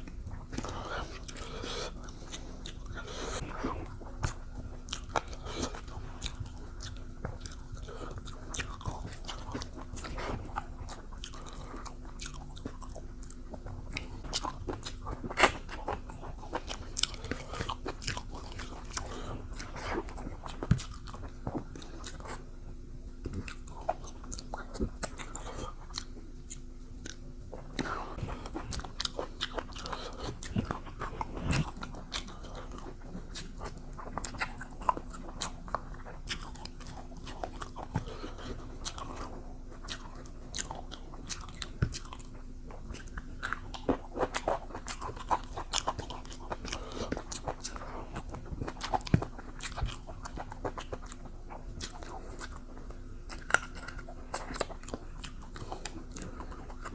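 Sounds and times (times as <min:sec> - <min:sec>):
faint steady hum: 0:00.0 - 0:56.9
person chewing crunchy food: 0:00.0 - 0:56.9.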